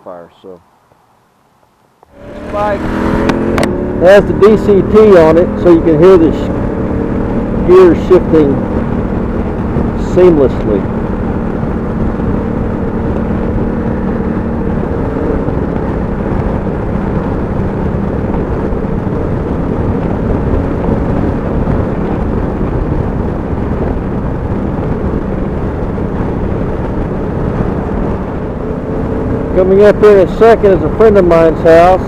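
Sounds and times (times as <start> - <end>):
road noise: 0.0 - 32.0
motorcycle engine running: 2.1 - 32.0
wind noise: 2.1 - 32.0.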